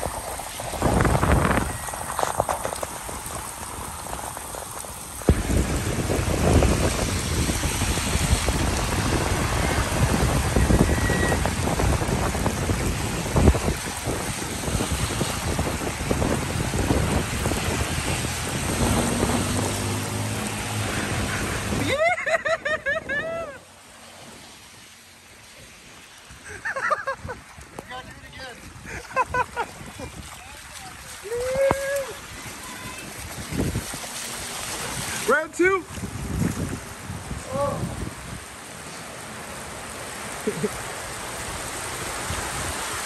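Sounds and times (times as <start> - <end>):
heavy rain: 0.0 - 43.0
water rushing down a street: 0.0 - 43.0.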